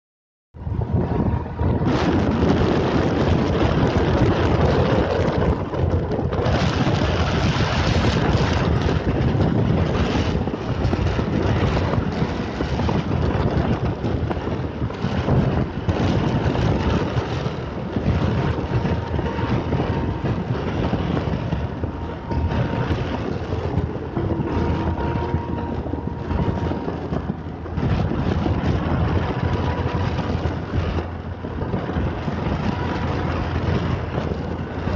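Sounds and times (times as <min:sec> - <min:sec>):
road noise: 0:00.6 - 0:34.9
wind buffeting microphone: 0:00.6 - 0:34.9
motorcycle engine: 0:01.0 - 0:34.9.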